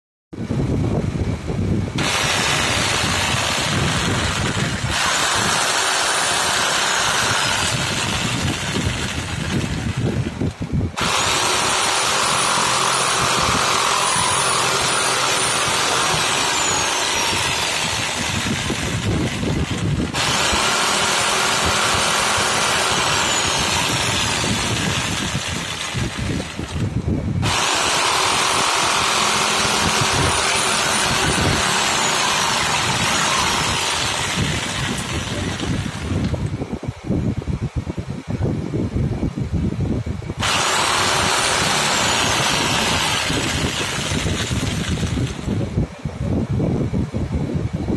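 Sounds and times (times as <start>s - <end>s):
electric jigsaw cutting wood: 2.0s - 36.5s, 40.4s - 45.7s.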